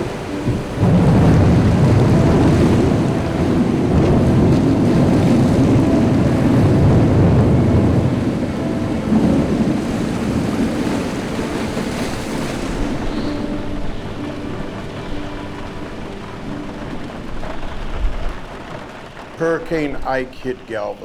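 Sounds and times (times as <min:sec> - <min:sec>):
deep rumble of thunder: 0:00.0 - 0:20.7
heavy rain: 0:00.0 - 0:21.0.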